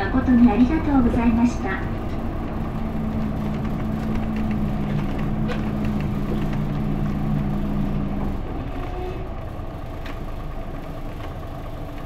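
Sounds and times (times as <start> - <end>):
bus diesel engine hum: 0.0 - 12.0.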